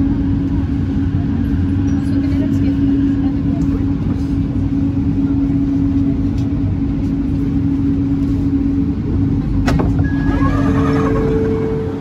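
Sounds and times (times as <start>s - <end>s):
light-rail car hum and rumble: 0.0s - 12.0s.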